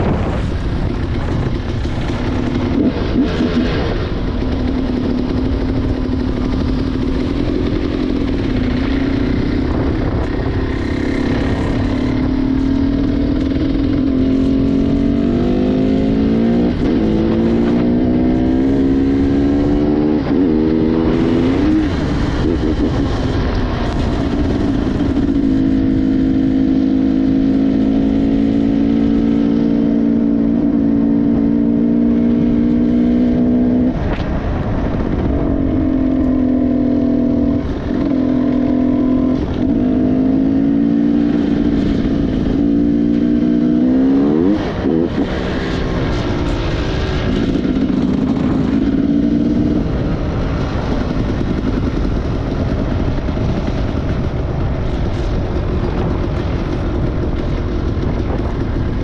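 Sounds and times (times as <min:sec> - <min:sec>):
motorcycle engine revving: 0:00.0 - 0:59.0
steady rushing noise: 0:00.0 - 0:59.0.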